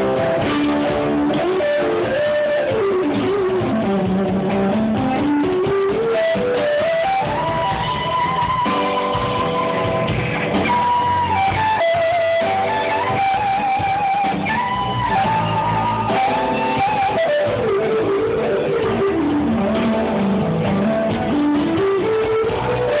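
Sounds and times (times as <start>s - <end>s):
bass guitar playing: 0.0s - 23.0s
electric guitar lead line: 0.0s - 23.0s.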